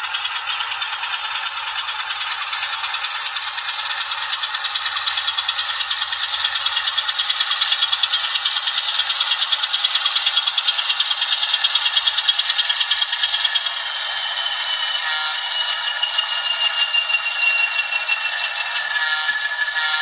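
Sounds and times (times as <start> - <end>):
model train rattling on track: 0.0 - 20.0.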